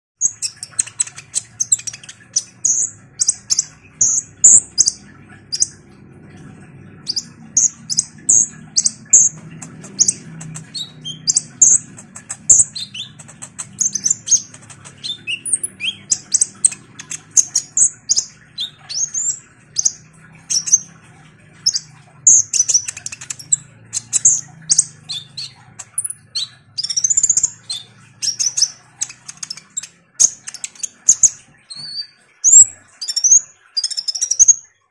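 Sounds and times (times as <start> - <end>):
bird singing high chirps: 0.2 - 5.8, 7.0 - 21.0, 21.6 - 34.8.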